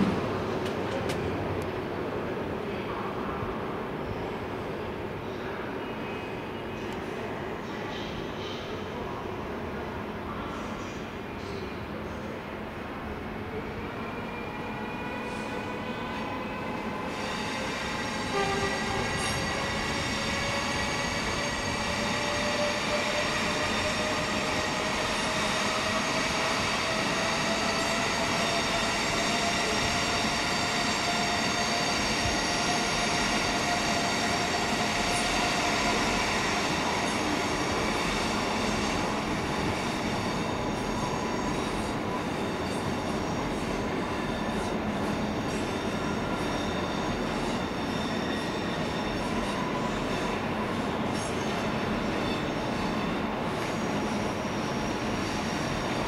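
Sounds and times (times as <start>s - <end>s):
electric train passing slowly: 9.7s - 56.0s.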